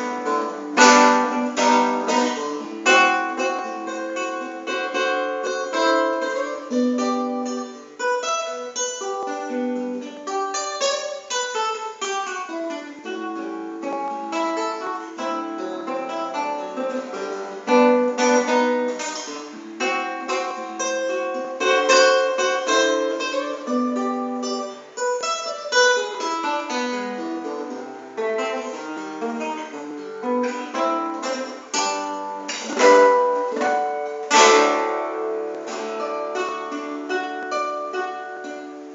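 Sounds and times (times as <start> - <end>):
solo guitar playing: 0.0 - 38.9.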